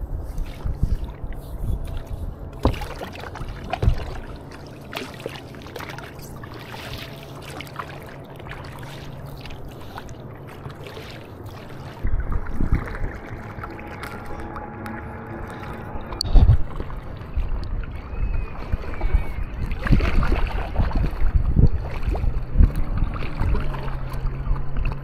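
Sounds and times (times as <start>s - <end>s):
paddles splashing in water: 0.0s - 25.0s
water lapping around boards: 0.0s - 25.0s.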